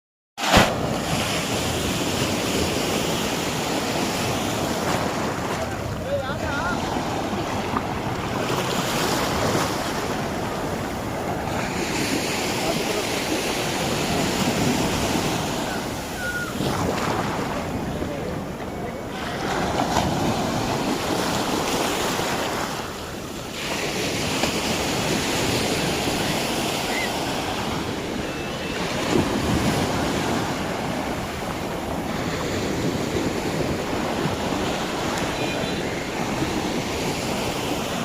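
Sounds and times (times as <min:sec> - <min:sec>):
ocean waves breaking: 0:00.4 - 0:38.0.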